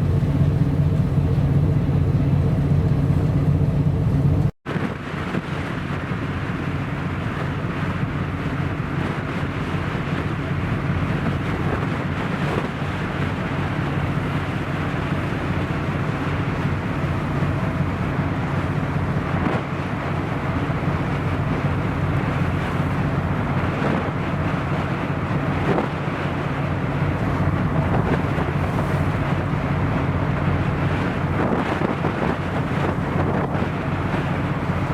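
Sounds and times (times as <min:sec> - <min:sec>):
ship engine drone: 0:00.0 - 0:34.9
water rushing: 0:00.0 - 0:34.9
wind on microphone: 0:00.0 - 0:34.9.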